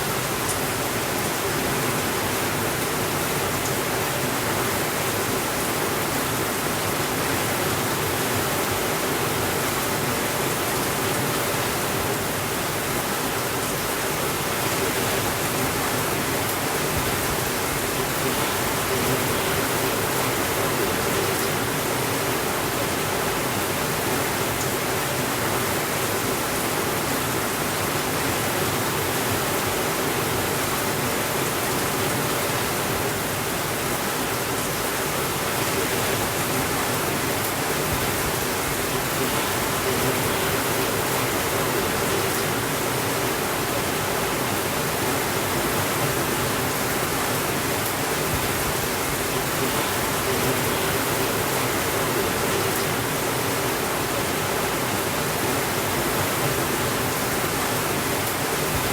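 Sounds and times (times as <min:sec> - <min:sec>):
steady rainfall: 0:00.0 - 0:58.9.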